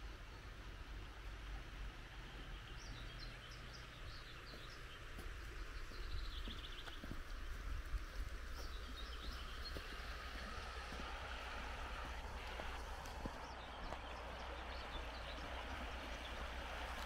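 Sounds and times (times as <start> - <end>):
river water hissing: 0.0 - 17.0
songbirds chirping: 0.0 - 17.0.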